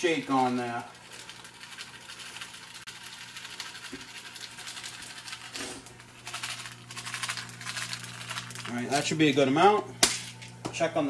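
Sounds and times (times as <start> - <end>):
candies rattling in plastic tube: 0.0 - 9.2
steady low hum: 0.0 - 11.0.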